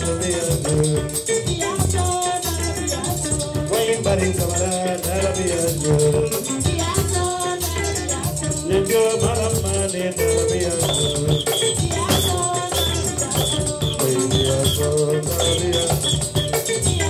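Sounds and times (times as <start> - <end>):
kora band playing: 0.0 - 17.0
shaker-like rattle beat: 0.0 - 17.0.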